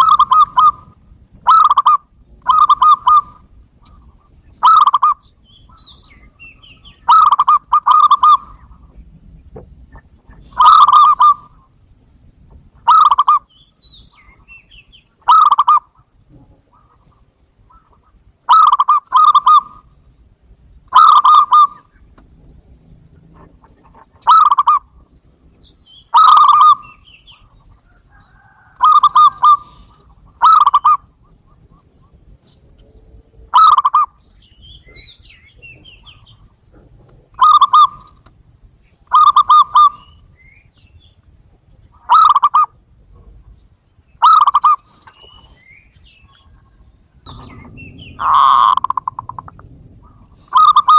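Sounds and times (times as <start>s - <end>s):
dove cooing: 0.0s - 11.8s, 15.2s - 20.0s, 20.9s - 22.2s, 23.2s - 25.1s, 26.0s - 38.3s, 39.0s - 40.2s, 41.9s - 43.5s, 44.2s - 50.9s.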